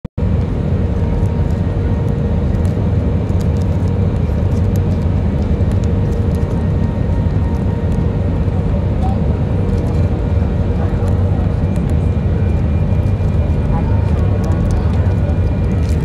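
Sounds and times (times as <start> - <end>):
engines and wheels rumbling: 0.2 - 16.0.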